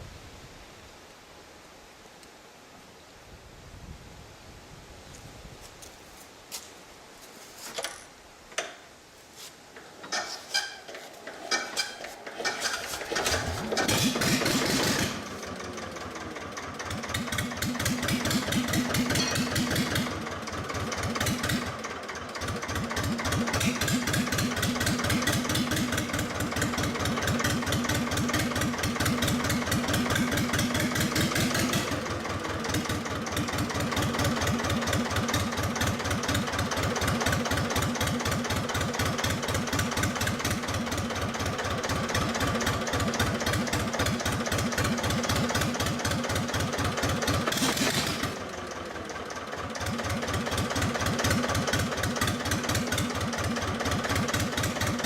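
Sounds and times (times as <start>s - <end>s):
diesel engine running: 10.1s - 55.0s.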